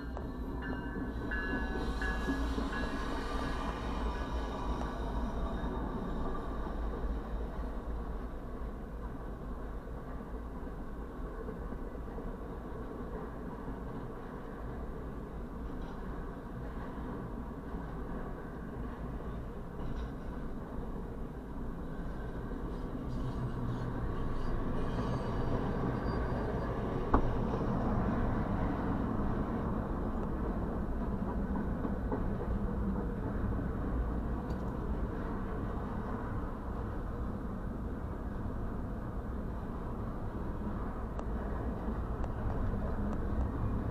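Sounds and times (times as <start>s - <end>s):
muffled freight train rumble: 0.0s - 43.9s.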